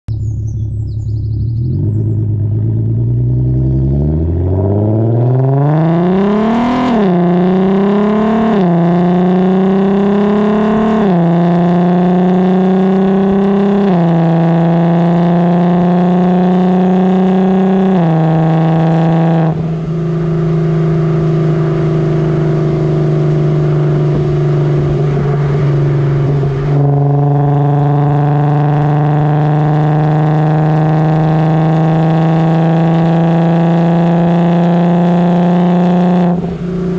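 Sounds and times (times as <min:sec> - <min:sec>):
car exhaust accelerating: 0:00.1 - 0:36.9.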